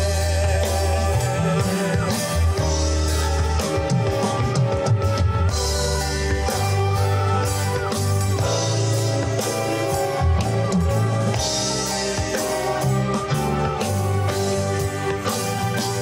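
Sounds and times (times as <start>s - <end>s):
bass notes: 0.0s - 16.0s
live rock band playing: 0.0s - 16.0s.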